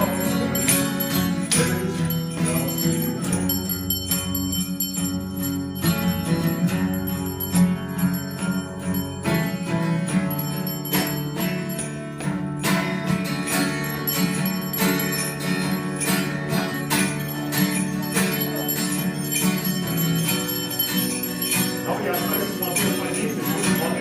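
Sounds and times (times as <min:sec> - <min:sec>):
church bells pealing: 0:00.0 - 0:24.0.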